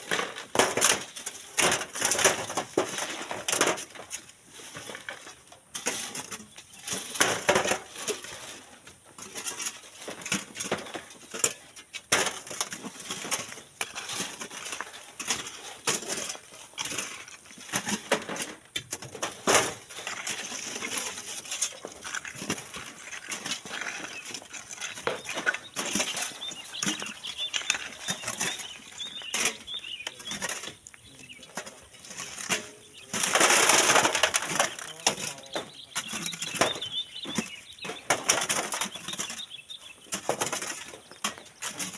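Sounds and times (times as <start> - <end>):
clatter of small stones: 0.0 - 41.9
shovels scraping sand and gravel: 0.0 - 41.9.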